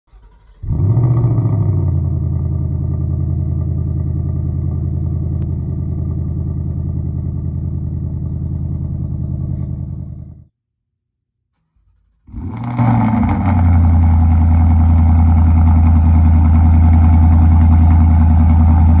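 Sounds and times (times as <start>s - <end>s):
car engine starting and idling: 0.0s - 10.5s, 11.6s - 19.0s.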